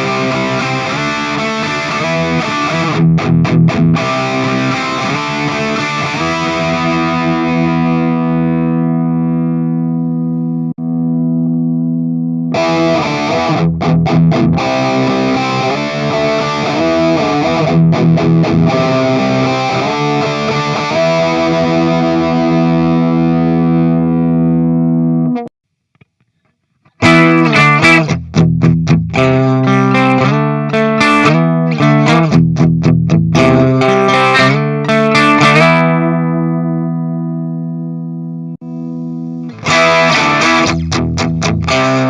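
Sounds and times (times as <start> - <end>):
distorted electric guitar: 0.0 - 26.2, 26.9 - 42.0.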